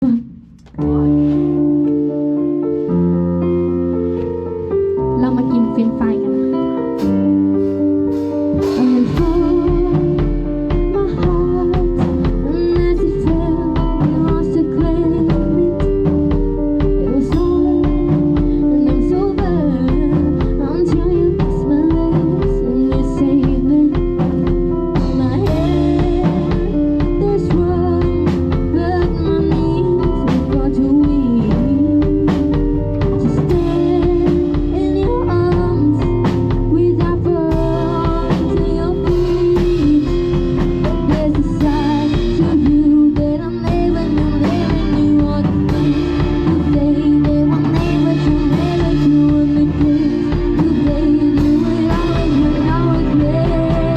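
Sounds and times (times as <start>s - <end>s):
drum kit playing: 0.0s - 53.9s
pop song with singing: 8.6s - 53.9s.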